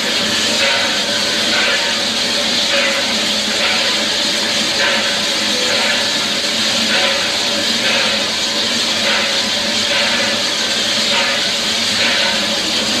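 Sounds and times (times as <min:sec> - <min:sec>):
steam locomotive hiss and rumble: 0:00.0 - 0:13.0.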